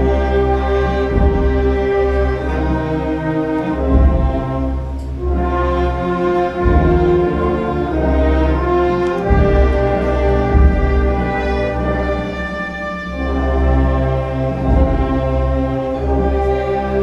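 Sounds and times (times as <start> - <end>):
orchestral strings and brass chords: 0.0 - 17.0.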